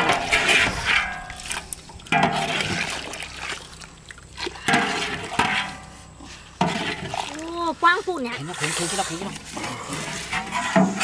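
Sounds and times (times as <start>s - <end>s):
liquid splashing and pouring: 0.0s - 6.0s, 6.6s - 11.0s.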